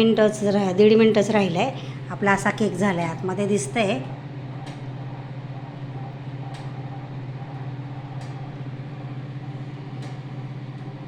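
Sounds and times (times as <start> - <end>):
microwave fan hum: 0.0 - 11.0.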